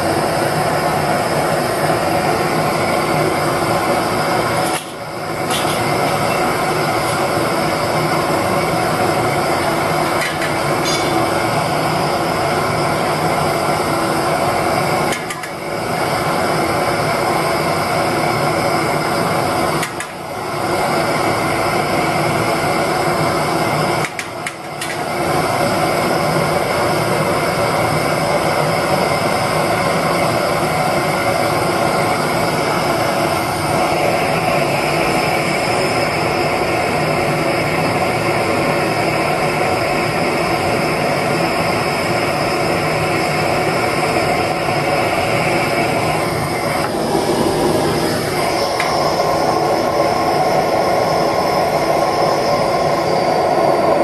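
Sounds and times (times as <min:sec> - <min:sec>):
gas burner roaring: 0:00.0 - 0:54.0.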